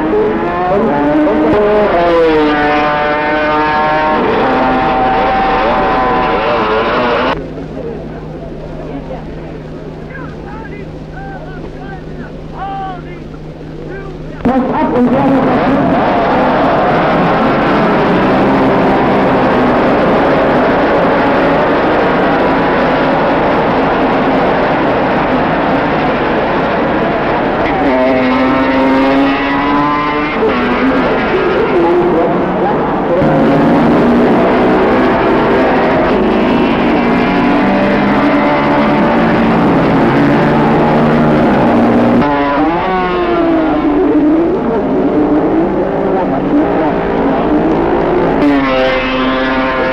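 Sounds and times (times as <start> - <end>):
racing motorcycles at high revs: 0.0 - 7.5, 14.0 - 49.9.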